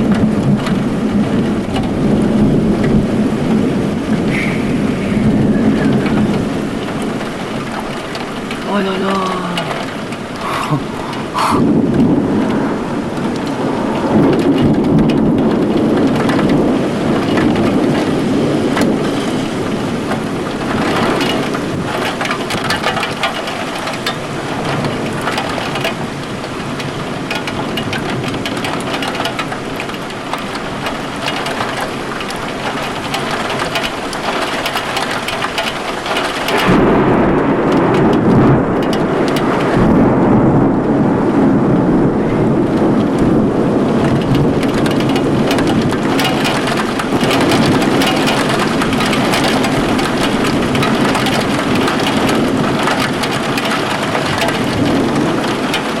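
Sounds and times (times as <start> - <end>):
heavy rain pelting: 0.0 - 56.0
thunder rumbling: 0.0 - 56.0.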